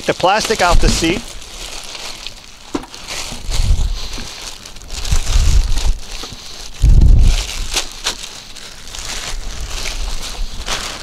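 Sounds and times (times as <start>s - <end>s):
plastic wrapping crinkling: 0.0s - 11.0s
low rumbles: 0.5s - 10.9s.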